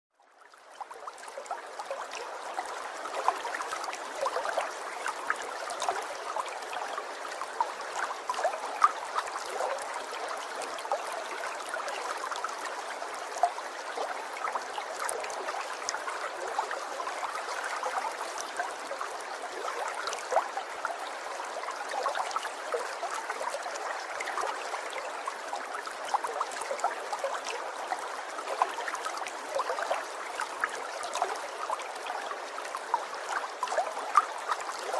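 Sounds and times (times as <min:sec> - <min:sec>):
water trickling and gurgling: 0:00.2 - 0:34.9.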